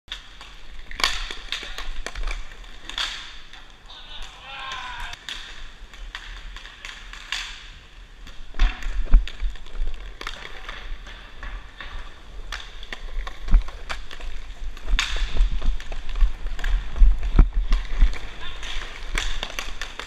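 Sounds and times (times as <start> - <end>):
skate wheels rolling on rink floor: 0.1 - 20.0
sticks and ball clicking: 0.1 - 20.0.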